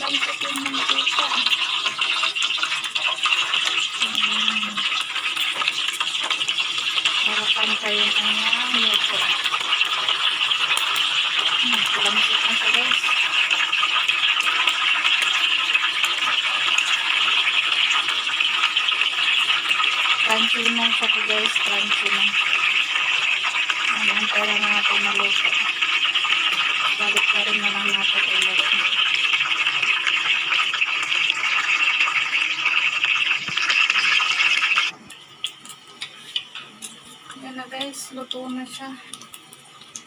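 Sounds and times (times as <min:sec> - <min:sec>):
hot oil sizzling: 0:00.0 - 0:40.0
oil crackling: 0:00.0 - 0:40.0.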